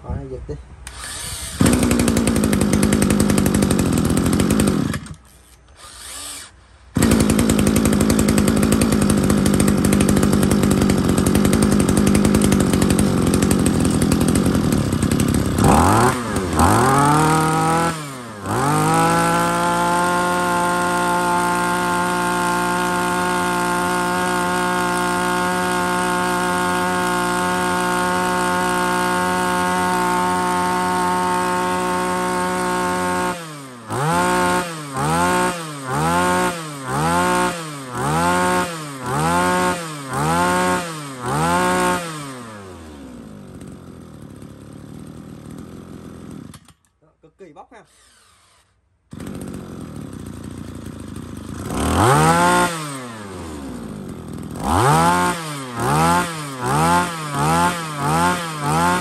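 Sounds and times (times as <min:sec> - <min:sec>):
brush cutter engine revving: 0:00.8 - 0:59.0.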